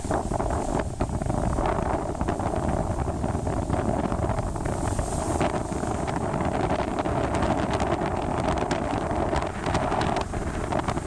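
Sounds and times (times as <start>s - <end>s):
sea waves breaking over rocks: 0.0s - 11.0s
wind buffeting microphone: 0.0s - 11.0s.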